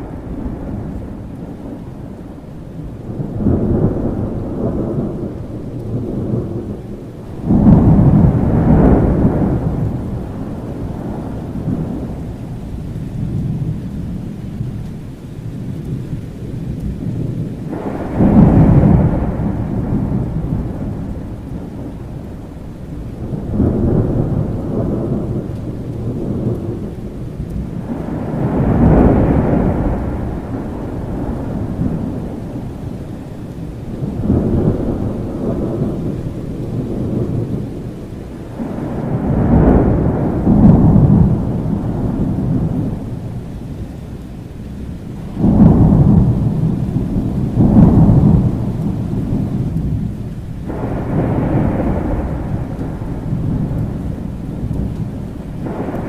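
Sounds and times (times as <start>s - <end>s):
thunder rolling: 0.0s - 14.7s, 15.5s - 56.0s
steady rain: 0.0s - 56.0s.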